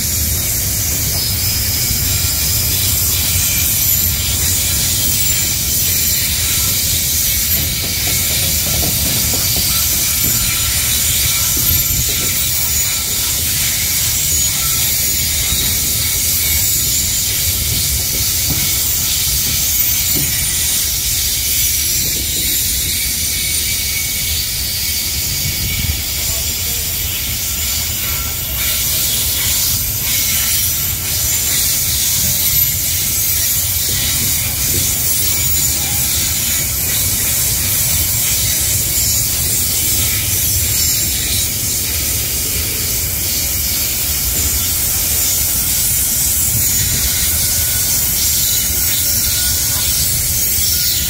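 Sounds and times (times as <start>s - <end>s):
low train rumble: 0.0s - 51.0s
steel wheels hissing on rails: 0.0s - 51.0s.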